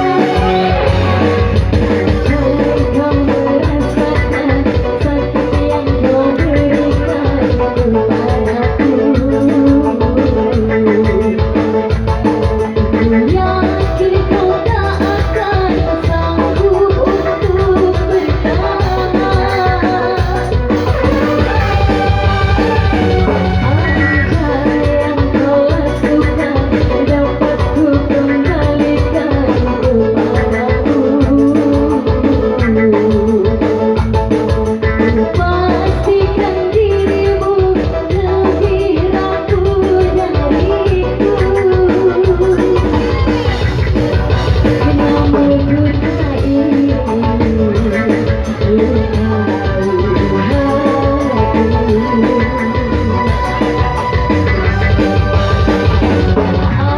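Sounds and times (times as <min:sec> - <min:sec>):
band playing dangdut music: 0:00.0 - 0:56.9
held melody line: 0:00.0 - 0:56.9.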